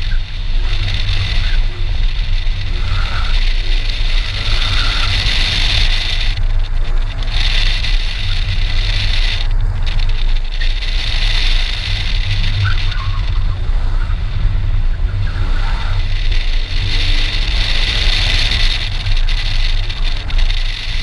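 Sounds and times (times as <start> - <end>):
car engine driven hard: 0.0 - 21.0
wind rumble on camera: 0.0 - 21.0.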